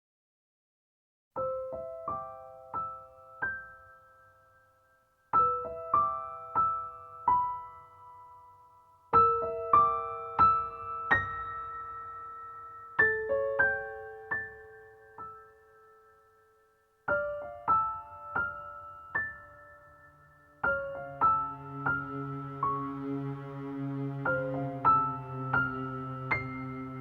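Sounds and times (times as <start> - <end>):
slow gentle piano melody: 1.4 - 27.0.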